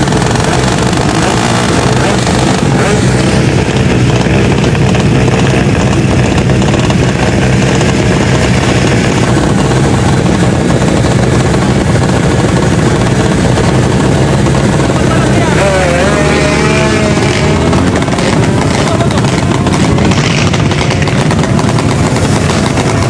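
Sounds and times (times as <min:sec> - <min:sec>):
motorbike engine at high revs: 0:00.0 - 0:23.0.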